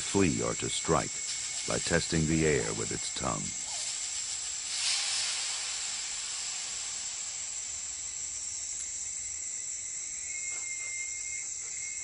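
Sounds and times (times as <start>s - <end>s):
snake hissing: 0.0s - 11.0s
night insects droning: 0.0s - 12.0s.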